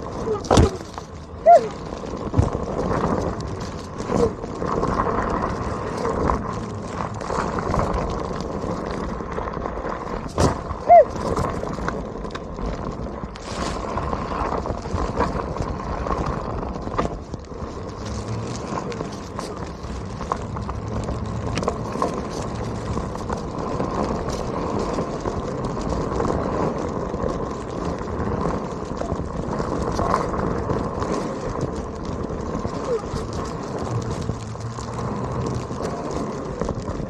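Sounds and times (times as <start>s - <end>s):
electric board rolling over rough ground: 0.0s - 37.0s
faint hub motor hum: 0.0s - 37.0s.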